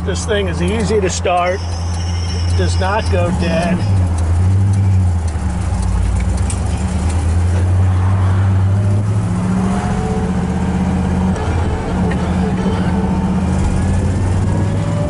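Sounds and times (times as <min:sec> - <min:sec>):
car engine running: 0:00.0 - 0:15.0
road noise: 0:00.0 - 0:15.0.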